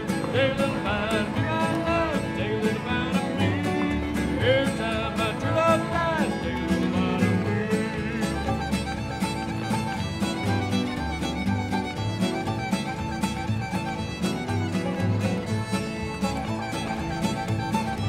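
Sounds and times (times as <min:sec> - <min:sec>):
fiddle melody: 0:00.0 - 0:18.0
guitar: 0:00.0 - 0:18.0
upright bass: 0:00.0 - 0:18.0.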